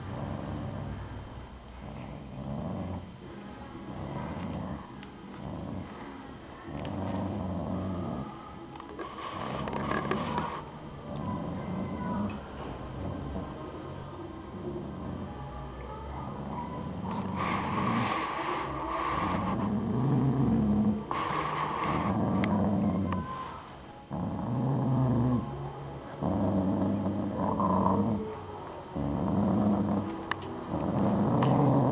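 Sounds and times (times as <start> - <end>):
dog growling: 0.0 - 1.1, 1.8 - 3.2, 3.8 - 13.8, 14.5 - 15.5, 16.1 - 31.9.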